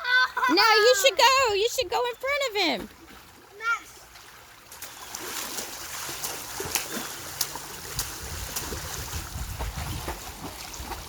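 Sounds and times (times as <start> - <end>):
water splashing in a pool: 0.0 - 11.0.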